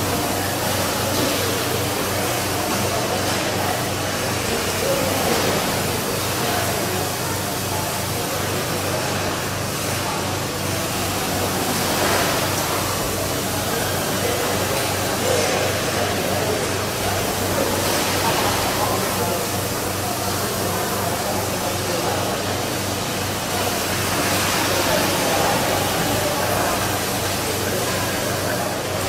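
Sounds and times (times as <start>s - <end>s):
milking machinery humming and hissing: 0.0s - 29.0s.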